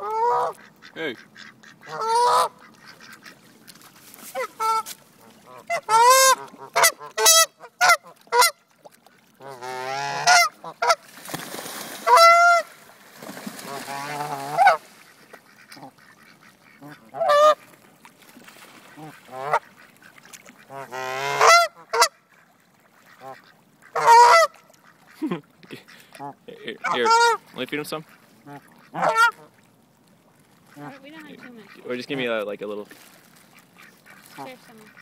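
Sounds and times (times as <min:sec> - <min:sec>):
geese honking: 0:00.0 - 0:11.0, 0:12.0 - 0:12.8, 0:13.6 - 0:17.8, 0:18.9 - 0:25.1, 0:25.8 - 0:29.6, 0:30.7 - 0:32.3, 0:33.5 - 0:35.0.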